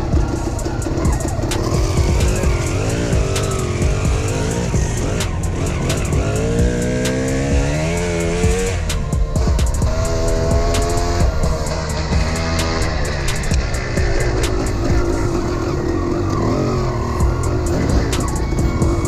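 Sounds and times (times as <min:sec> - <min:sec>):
bike knocking and clicking: 0:00.0 - 0:19.0
dirt bike engine revving: 0:00.0 - 0:19.0.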